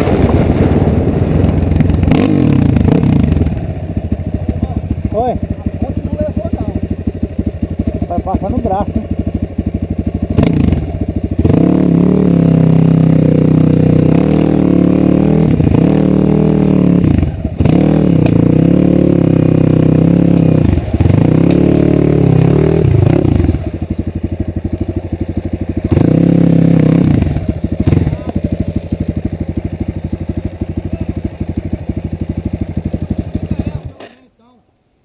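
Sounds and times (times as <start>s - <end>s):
dirt bike engine revving: 0.0s - 34.2s.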